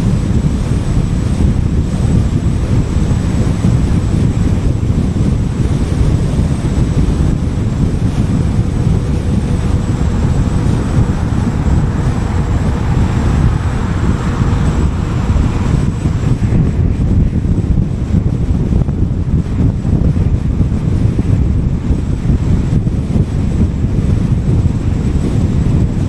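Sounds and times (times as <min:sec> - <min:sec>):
tyre and road noise: 0:00.0 - 0:26.0
wind buffeting: 0:00.0 - 0:26.0.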